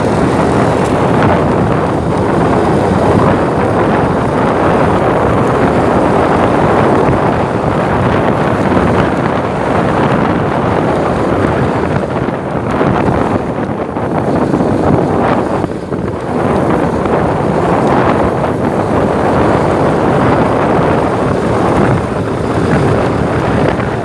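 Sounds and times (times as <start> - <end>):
road and vehicle noise: 0.0 - 24.0
wind buffeting microphone: 0.0 - 24.0.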